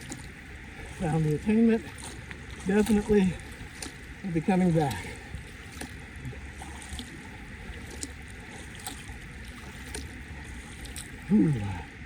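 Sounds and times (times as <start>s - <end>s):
small water splashes: 0.0s - 12.0s.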